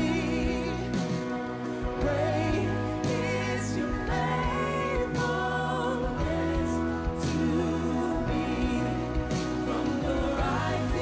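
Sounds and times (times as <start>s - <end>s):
worship band playing: 0.0s - 11.0s.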